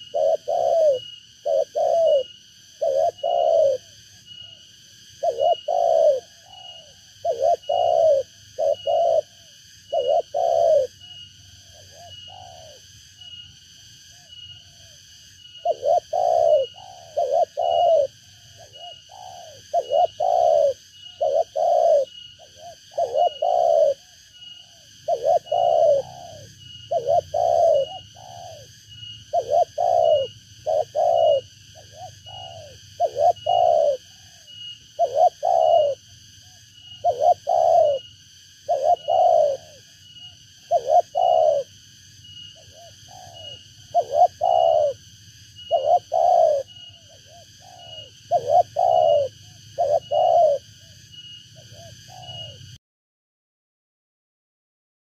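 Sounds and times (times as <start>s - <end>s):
dove cooing: 0.0s - 13.4s, 14.1s - 52.8s.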